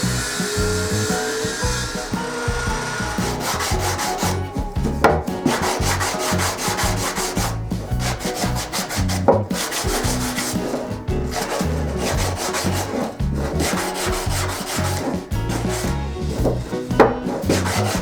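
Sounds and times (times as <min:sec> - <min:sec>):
sharp knocks on wood: 0:00.0 - 0:18.0
wood being sanded by hand: 0:00.0 - 0:18.0.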